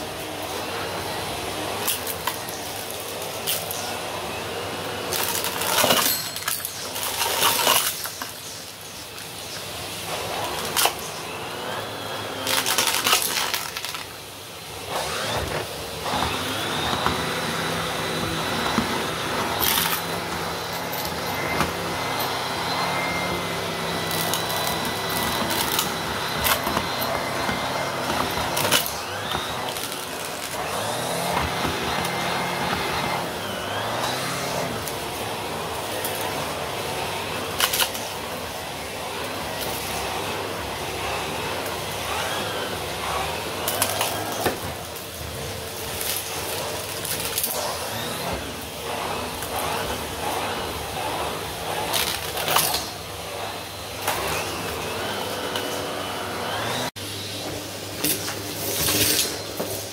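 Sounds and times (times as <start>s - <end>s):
vacuum cleaner running: 0.0s - 59.9s
debris clicking up vacuum wand: 1.7s - 4.0s, 5.0s - 9.7s, 10.3s - 11.3s, 12.4s - 14.2s, 14.8s - 38.4s, 43.6s - 59.9s.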